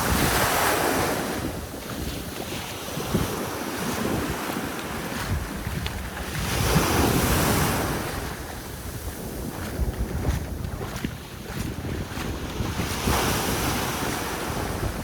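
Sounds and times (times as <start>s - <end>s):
sea waves breaking on beach: 0.0s - 15.0s
wind buffeting microphone: 0.0s - 15.0s.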